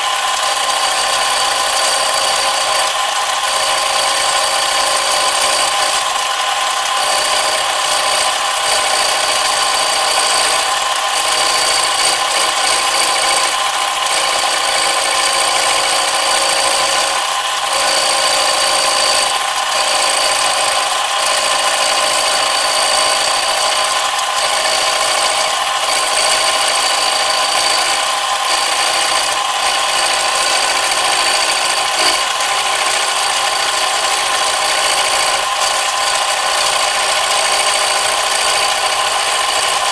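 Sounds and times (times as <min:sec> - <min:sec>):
power tool cutting metal: 0:00.0 - 0:39.9.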